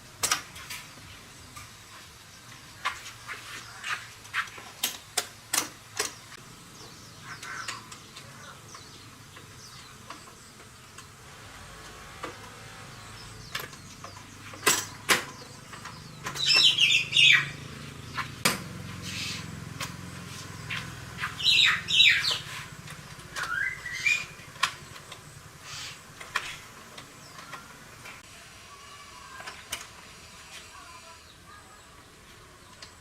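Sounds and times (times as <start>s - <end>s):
birds chirping: 0.8s - 33.0s.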